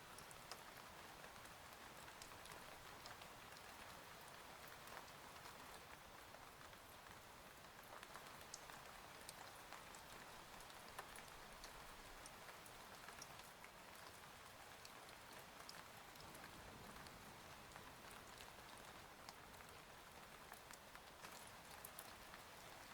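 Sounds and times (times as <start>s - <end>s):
faint steady rain: 0.0s - 22.9s
raindrops ticking on a surface: 0.0s - 22.9s.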